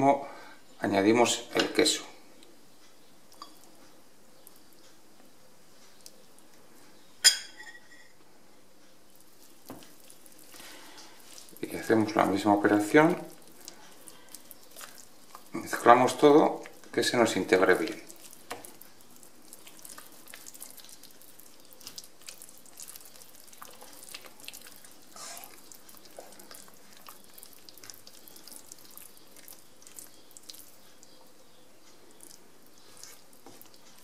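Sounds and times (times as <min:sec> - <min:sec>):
wet squishing of stirred risotto: 0:01.3 - 0:05.1, 0:09.0 - 0:34.0.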